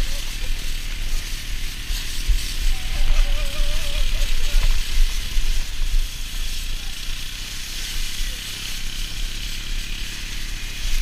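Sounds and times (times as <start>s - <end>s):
plastic sleds scraping on snow: 0.0s - 11.0s.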